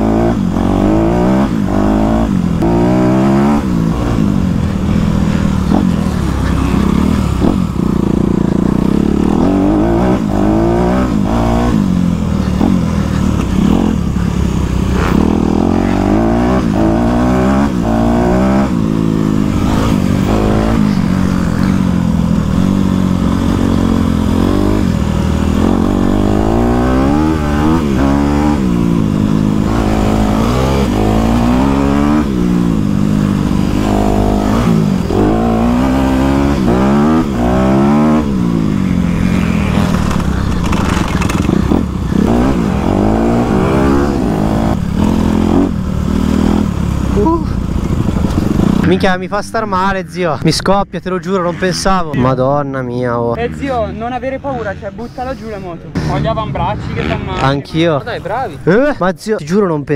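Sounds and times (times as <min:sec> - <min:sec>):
dirt bike engine revving: 0:00.0 - 0:50.2.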